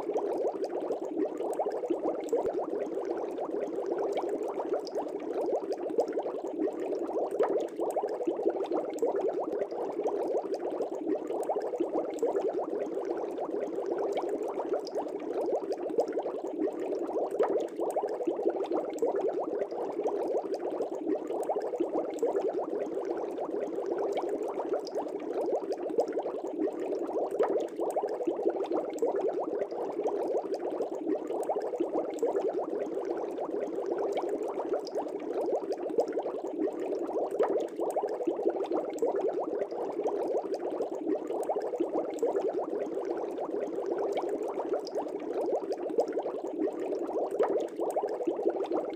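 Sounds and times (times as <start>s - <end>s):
air bubbles in fish tank: 0.0s - 48.9s.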